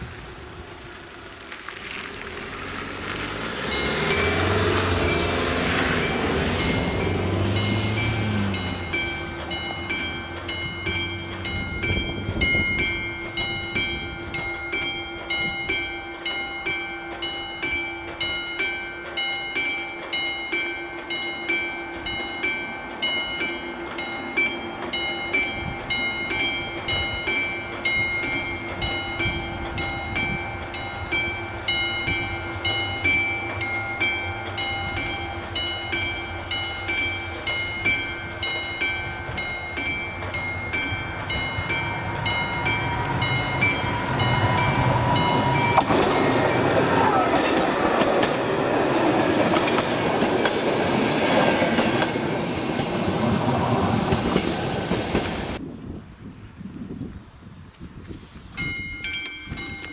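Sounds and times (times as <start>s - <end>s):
level crossing warning bell ringing: 3.6s - 53.4s, 58.6s - 59.9s.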